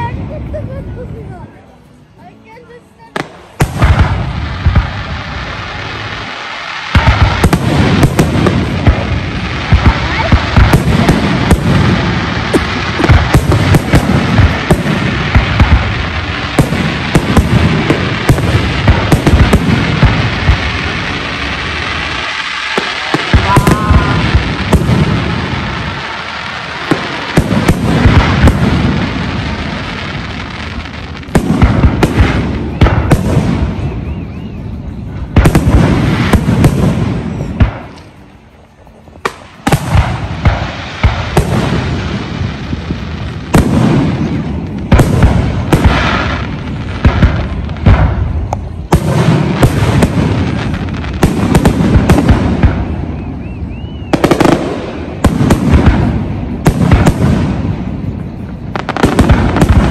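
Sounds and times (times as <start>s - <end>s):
fireworks booming and crackling: 0.0s - 59.9s.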